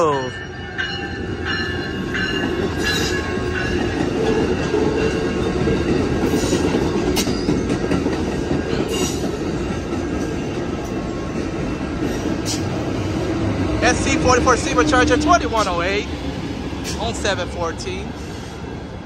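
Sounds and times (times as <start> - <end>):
train wheels rumbling on rail: 0.7 - 19.0.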